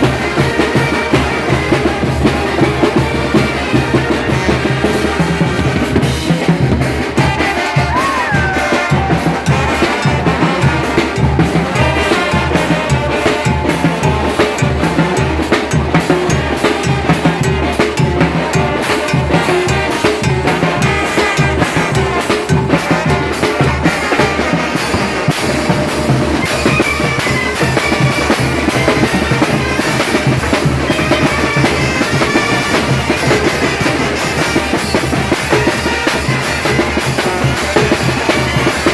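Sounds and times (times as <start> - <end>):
steady drum beat: 0.0 - 38.9
wind band playing dance music: 0.0 - 38.9.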